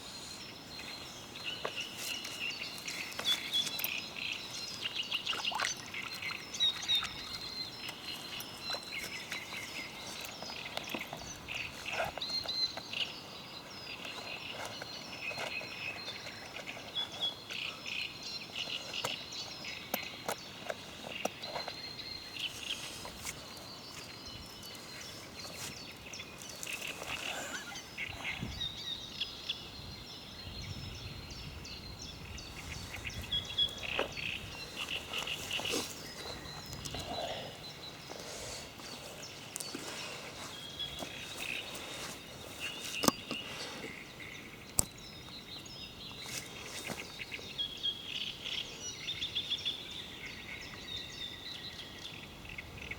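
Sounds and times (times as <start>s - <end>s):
small birds singing: 0.0s - 52.9s.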